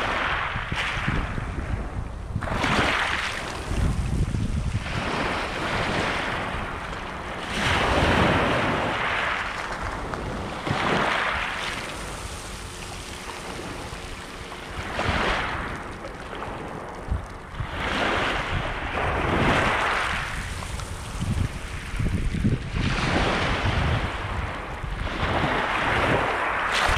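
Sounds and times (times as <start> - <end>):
waves washing over pebbles: 0.0 - 1.8, 2.4 - 26.9.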